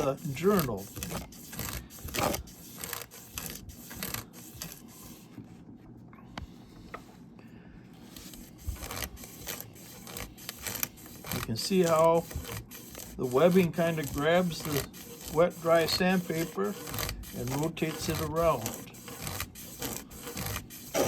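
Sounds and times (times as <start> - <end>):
sandpaper rasping on metal: 0.0 - 5.3, 8.0 - 21.0.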